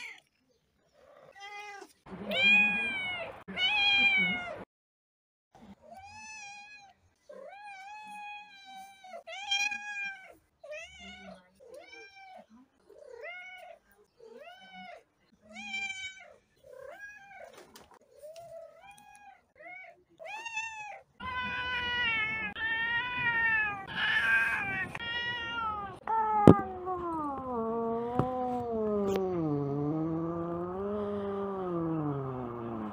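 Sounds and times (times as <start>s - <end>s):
cats meowing: 0.0s - 4.6s, 5.9s - 32.9s.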